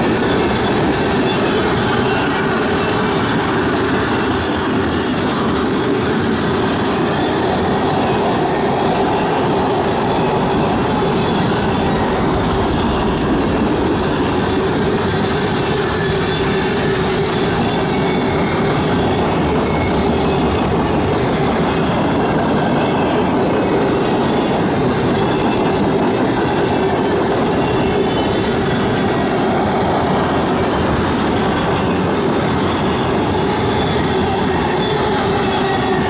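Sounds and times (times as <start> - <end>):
freight train wheels on rails: 0.0 - 36.0
steady high tone: 0.0 - 36.0.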